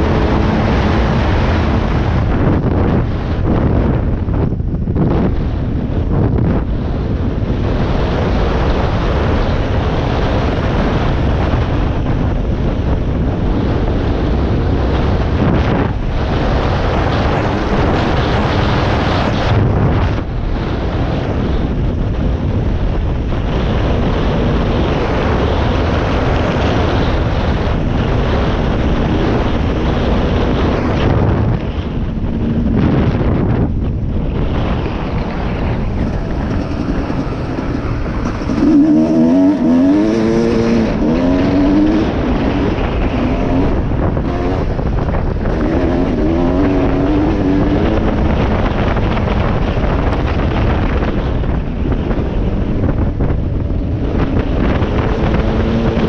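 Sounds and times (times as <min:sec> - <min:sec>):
dirt bike engine running: 0:00.0 - 0:56.0
wind buffeting microphone: 0:00.0 - 0:56.0.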